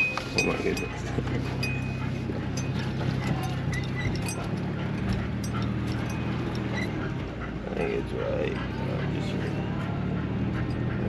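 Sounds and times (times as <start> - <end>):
light rattles and clinks: 0.0 - 9.7, 10.4 - 11.0
car engine droning: 0.0 - 11.0.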